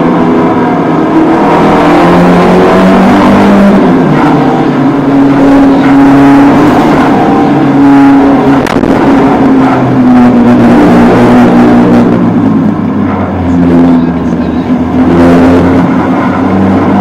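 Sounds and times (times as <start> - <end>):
car engine revving through gears: 0.0 - 17.0.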